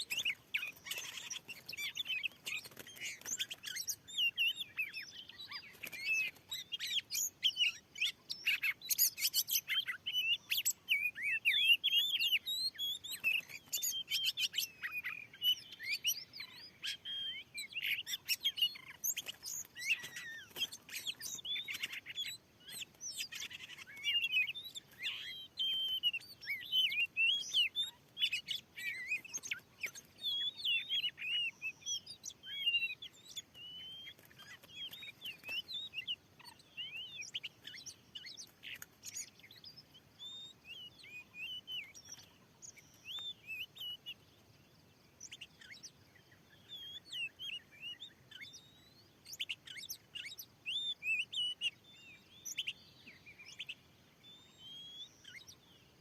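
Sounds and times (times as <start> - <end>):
songbird whistling and chirping: 0.0 - 56.0.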